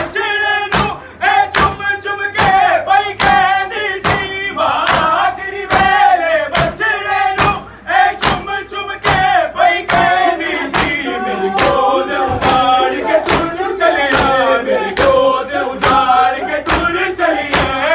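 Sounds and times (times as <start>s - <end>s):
men chanting in unison: 0.0s - 17.9s.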